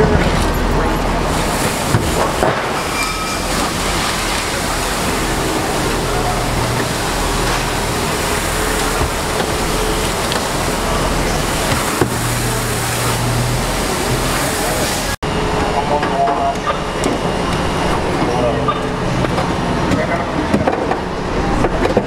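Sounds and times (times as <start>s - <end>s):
fire engines running: 0.0s - 22.0s.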